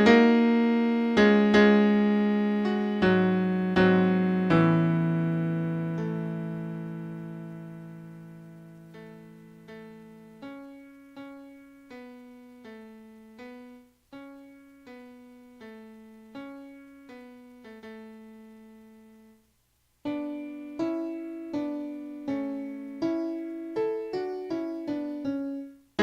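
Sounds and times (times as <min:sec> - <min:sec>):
keyboard piano playing hymn notes: 0:00.0 - 0:19.4, 0:20.0 - 0:26.0.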